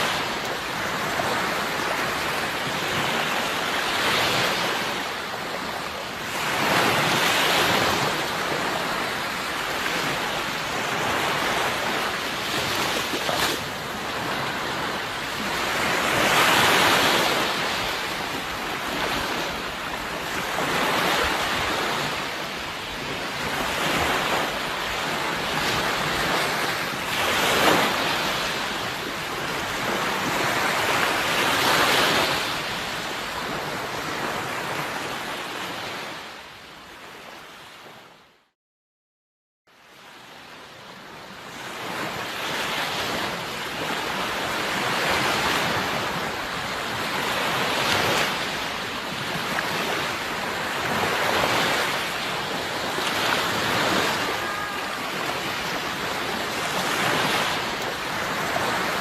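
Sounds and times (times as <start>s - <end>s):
sea waves washing ashore: 0.0s - 38.2s, 39.8s - 59.0s
wind: 0.0s - 38.6s, 39.7s - 59.0s.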